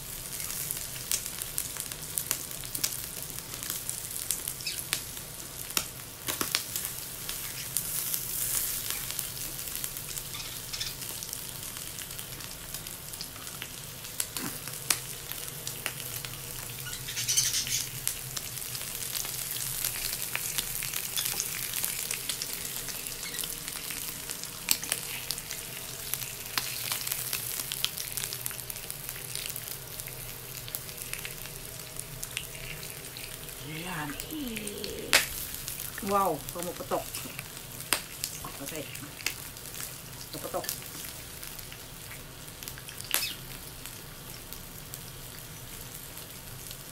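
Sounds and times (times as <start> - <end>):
meat sizzling on a grill: 0.0 - 46.9.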